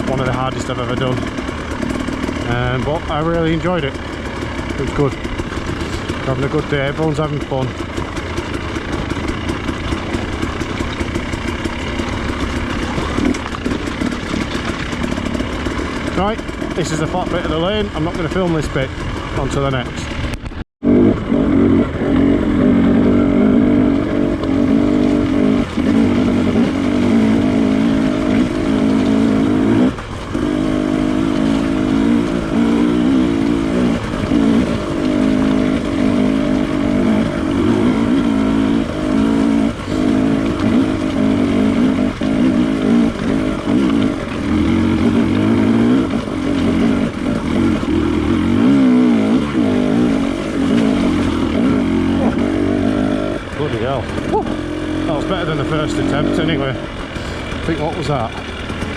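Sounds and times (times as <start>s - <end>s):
two-stroke motorbike engine revving: 0.0s - 58.9s.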